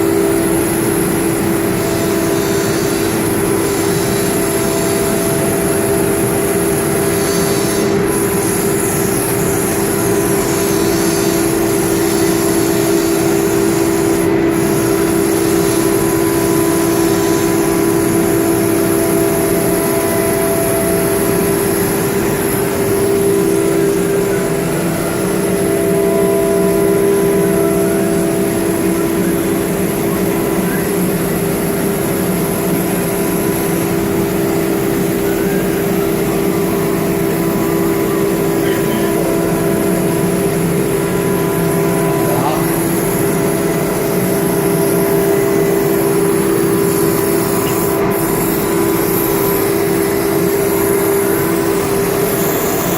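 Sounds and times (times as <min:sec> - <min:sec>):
cnc router whining: 0:00.0 - 0:52.9.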